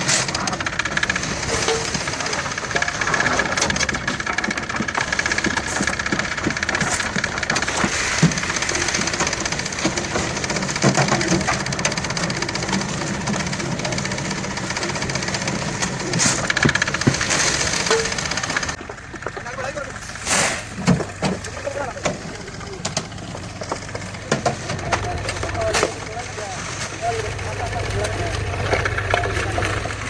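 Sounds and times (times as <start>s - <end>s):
engine running with rattle: 0.0s - 30.0s
knocks and clanks: 0.0s - 30.0s.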